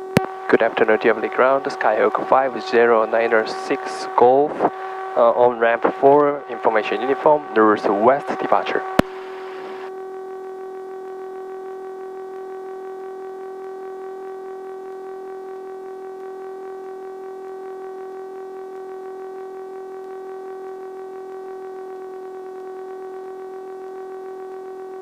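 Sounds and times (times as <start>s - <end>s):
steady electronic whine: 0.0s - 25.0s.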